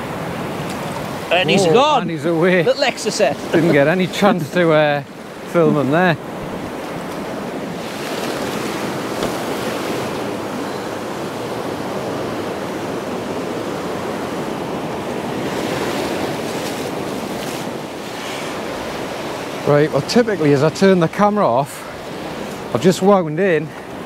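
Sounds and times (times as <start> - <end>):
surf breaking on sand: 0.0 - 12.2, 12.8 - 22.9.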